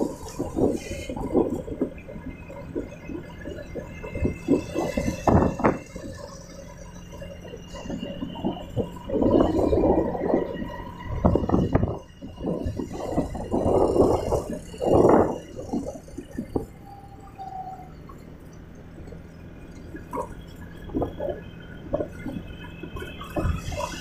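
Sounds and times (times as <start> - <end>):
faint engine hum: 0.0 - 24.0
wind buffeting microphone: 0.0 - 24.0.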